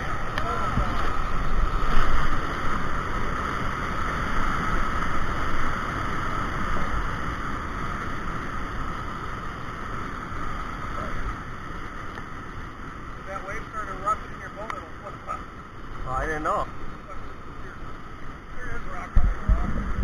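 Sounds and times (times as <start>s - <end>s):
whitewater rapids rushing: 0.0s - 20.0s.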